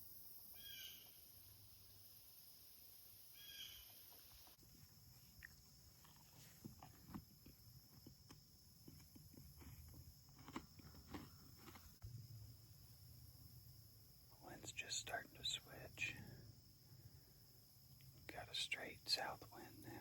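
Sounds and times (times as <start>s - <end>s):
insect hum: 0.0s - 20.0s.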